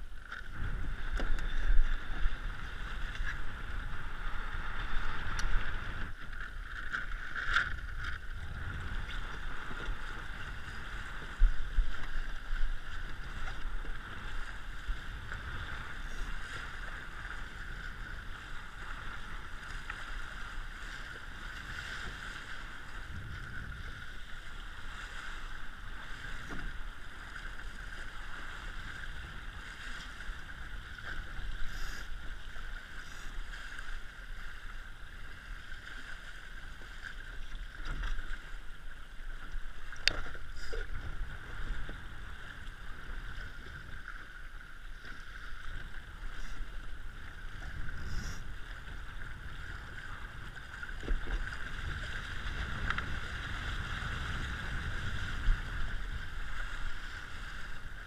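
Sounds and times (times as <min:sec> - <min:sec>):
low wind rumble: 0:00.0 - 0:58.0.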